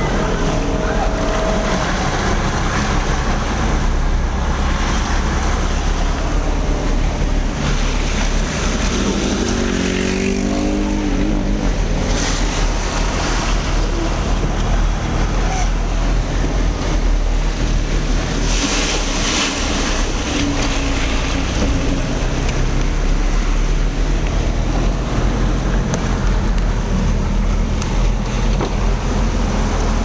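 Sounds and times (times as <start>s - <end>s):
vehicle engine rumble: 0.0s - 30.0s
water washing and splashing: 0.0s - 30.0s.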